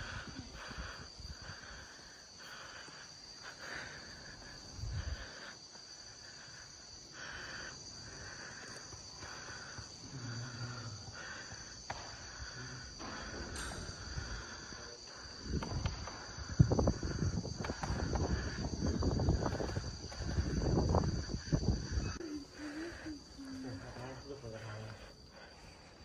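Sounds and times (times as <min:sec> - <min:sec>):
insects trilling steadily: 0:00.0 - 0:26.0
pulsing insect chorus: 0:00.0 - 0:26.0.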